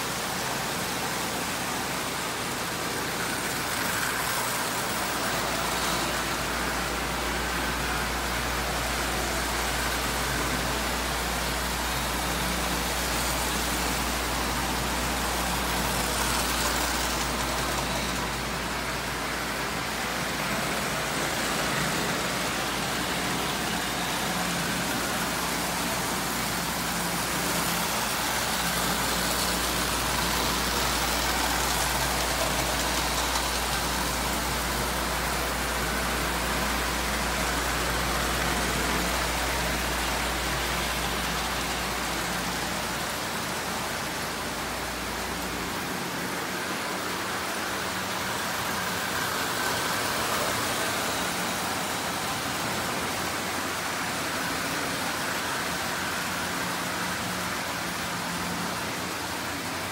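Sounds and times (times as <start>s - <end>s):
toy trains running on metal track: 0.0s - 59.9s.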